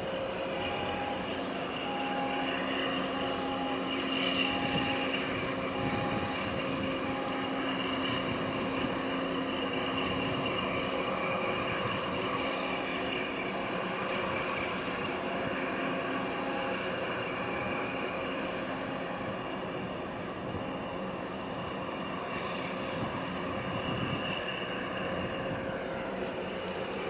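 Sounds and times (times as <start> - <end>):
diesel engines droning: 0.0 - 27.0.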